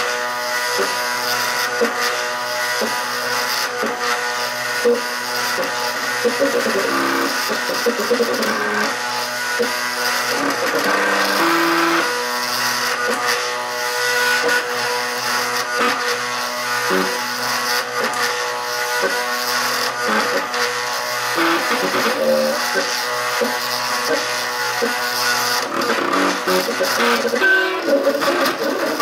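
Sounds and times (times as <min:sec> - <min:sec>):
stepper motors whining: 0:00.0 - 0:29.0.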